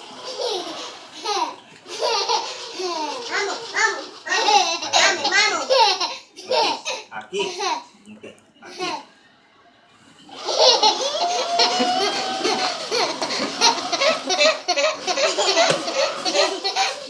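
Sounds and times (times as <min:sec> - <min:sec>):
baby laughing: 0:00.2 - 0:07.9, 0:10.5 - 0:17.0.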